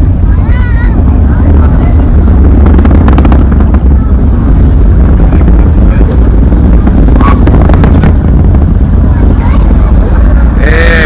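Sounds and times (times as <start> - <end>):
rocket engines rumbling: 0.0 - 11.0
wind buffeting microphone: 0.0 - 11.0.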